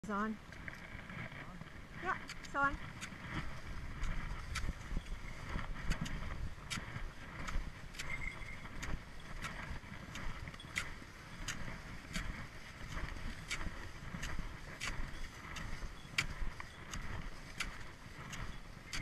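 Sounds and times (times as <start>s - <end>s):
ski poles crunching in snow: 0.6s - 19.0s.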